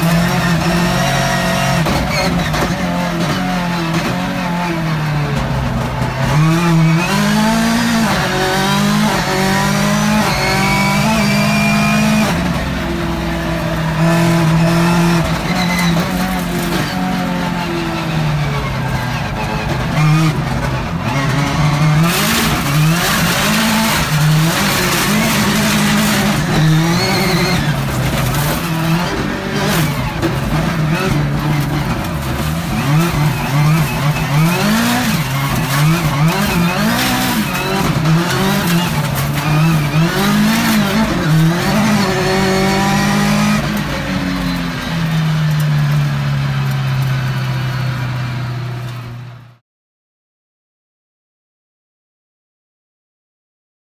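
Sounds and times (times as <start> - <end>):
tyres on gravel: 0.0 - 49.2
rally car engine revving: 0.0 - 49.6.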